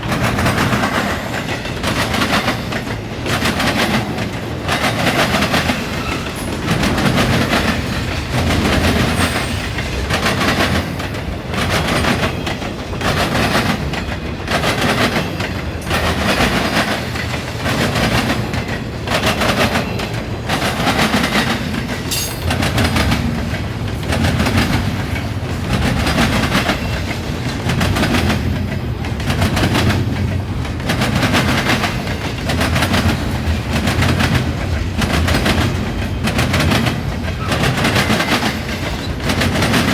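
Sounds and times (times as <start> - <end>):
freight train passing at speed: 0.0 - 39.9
train wheels clattering over crossing: 0.0 - 39.9.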